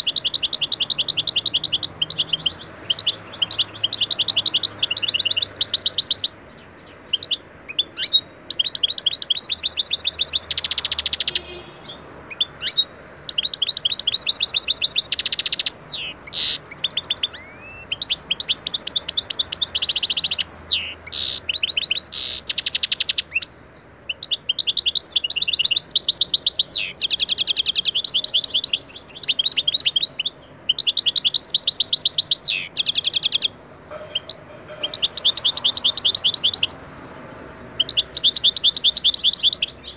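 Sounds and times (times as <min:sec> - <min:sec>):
goldfinch twittering and trilling: 0:00.0 - 0:39.9.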